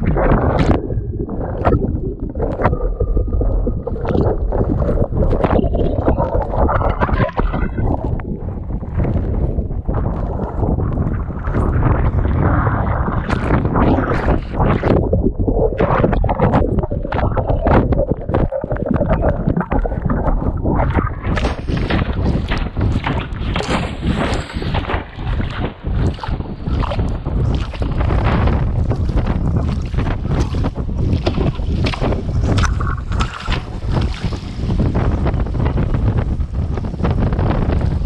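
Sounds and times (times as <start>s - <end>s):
water splashing: 0.0s - 38.0s
wind buffeting microphone: 0.0s - 38.0s.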